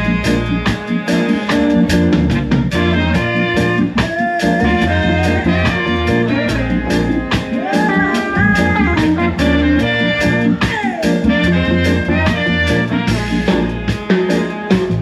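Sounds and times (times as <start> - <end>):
bending lead guitar melody: 0.0 - 15.0
drums keeping steady beat: 0.0 - 15.0
live band playing: 0.0 - 15.0.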